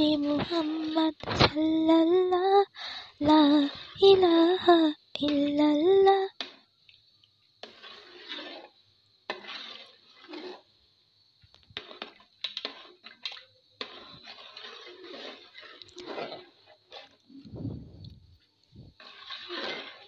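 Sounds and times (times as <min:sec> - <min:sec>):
spatula scraping lentils in pot: 0:00.0 - 0:01.6, 0:03.1 - 0:04.4, 0:06.3 - 0:20.0.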